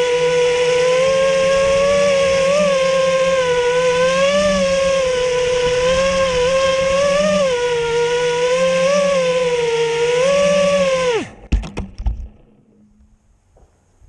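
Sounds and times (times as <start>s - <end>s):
quadcopter motors whining: 0.0s - 11.5s.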